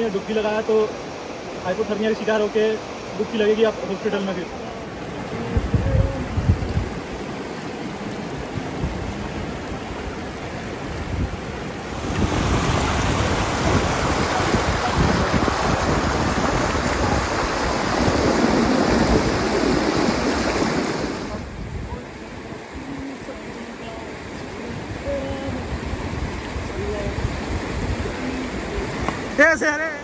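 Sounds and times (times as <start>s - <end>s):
river rushing over rocks: 0.0s - 5.8s, 6.4s - 30.0s
wind rumble on microphone: 5.1s - 29.4s.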